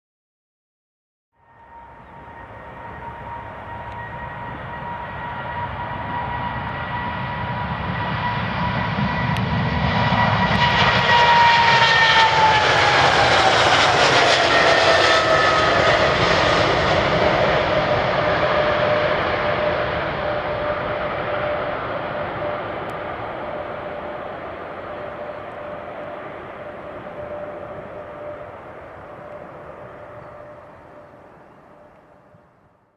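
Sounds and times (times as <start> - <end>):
jet engines roaring: 1.4 - 32.7.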